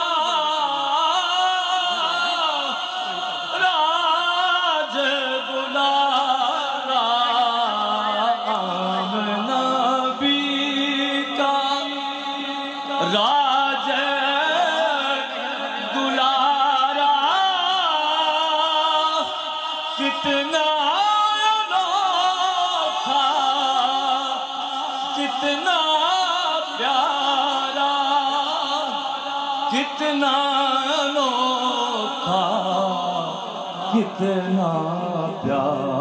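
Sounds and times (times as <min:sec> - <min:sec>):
man singing into a microphone: 0:00.0 - 0:36.0.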